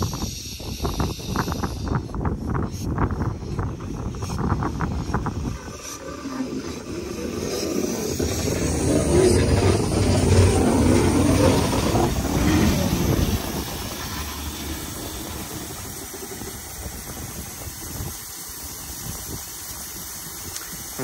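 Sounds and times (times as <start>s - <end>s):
hiss of steam: 0.0s - 21.0s
steam locomotive rumbling: 0.6s - 21.0s.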